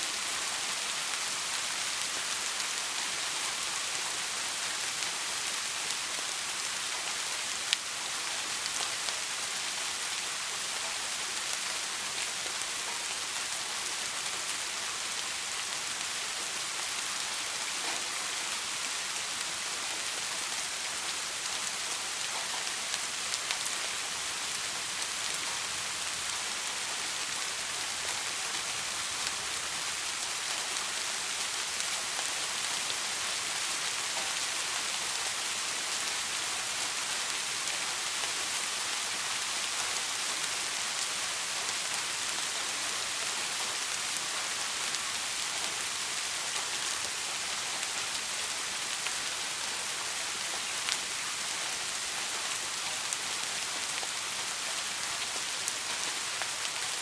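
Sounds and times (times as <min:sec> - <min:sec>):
soft rain hiss: 0:00.0 - 0:57.0.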